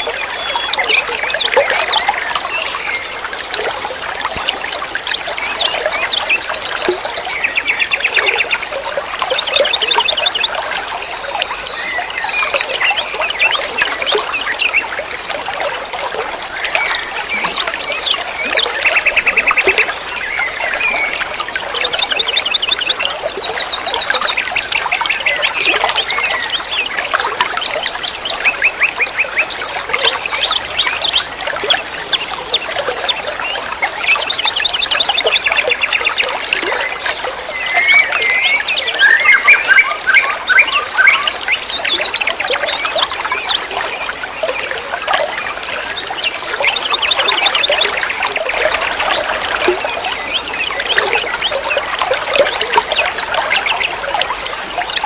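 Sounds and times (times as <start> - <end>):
running water trickling: 0.0 - 55.0
songbirds chirping: 0.0 - 55.0.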